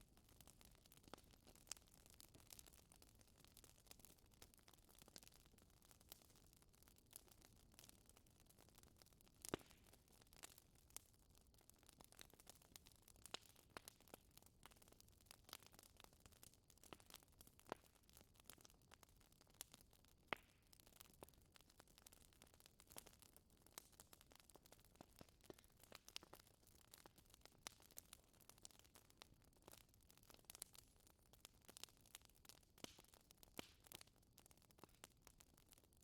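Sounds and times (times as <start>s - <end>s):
wood fire crackling: 0.1s - 36.0s.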